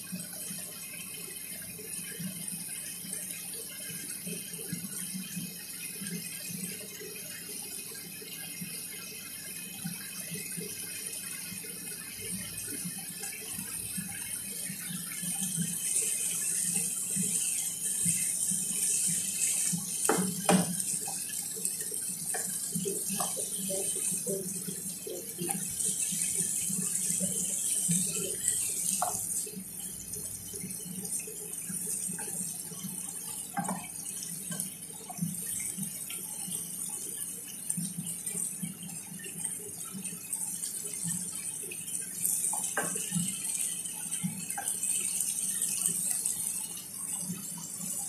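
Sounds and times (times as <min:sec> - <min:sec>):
food sizzling in a frying pan: 0:00.1 - 0:48.0.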